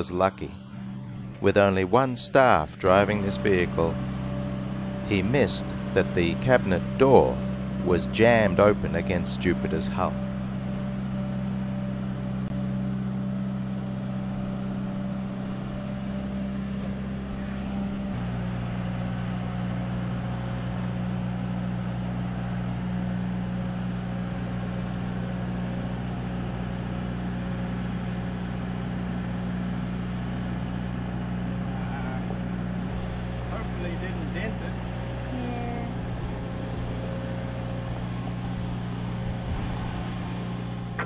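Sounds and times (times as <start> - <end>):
boat hoist engine droning: 0.0 - 41.0.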